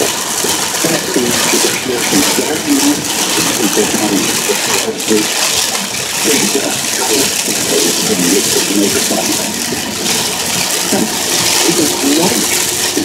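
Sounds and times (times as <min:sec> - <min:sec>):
heavy rain on car roof: 0:00.0 - 0:13.0.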